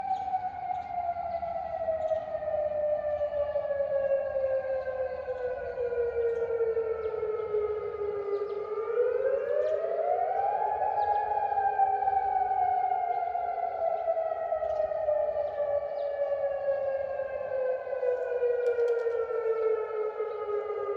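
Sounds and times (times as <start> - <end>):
sirens wailing: 0.0 - 20.9.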